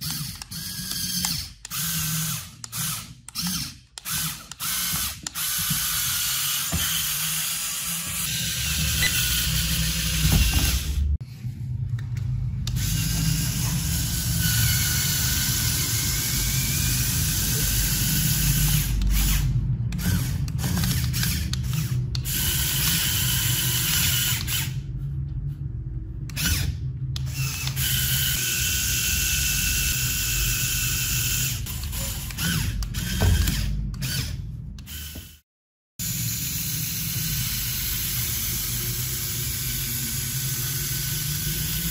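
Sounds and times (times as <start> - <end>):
small electric motors whirring: 0.0 - 11.0, 12.6 - 24.9, 26.3 - 35.4, 36.0 - 41.9
toy gears grinding: 0.0 - 11.0, 12.6 - 24.9, 26.3 - 35.4, 36.0 - 41.9.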